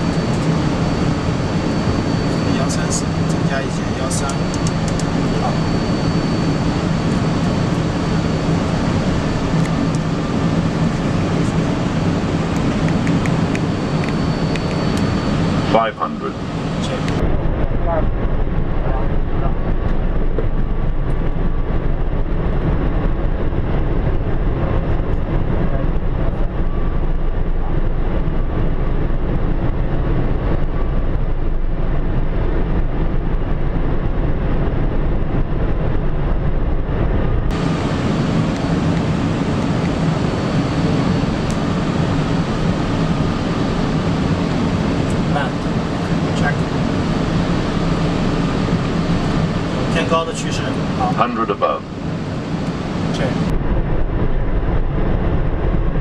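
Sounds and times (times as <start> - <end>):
aircraft engine noise: 0.0 - 56.0
airflow past cockpit: 0.0 - 56.0.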